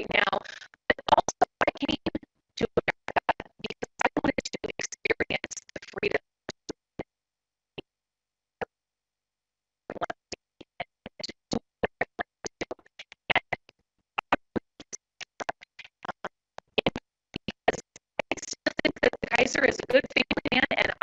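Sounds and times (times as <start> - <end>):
garbled voice over video call: 0.0 - 6.7, 9.9 - 21.0.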